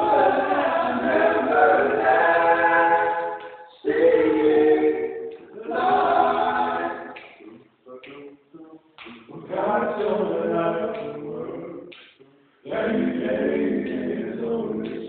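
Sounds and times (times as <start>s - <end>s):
male vocal group singing a cappella: 0.0s - 7.7s, 9.1s - 15.0s.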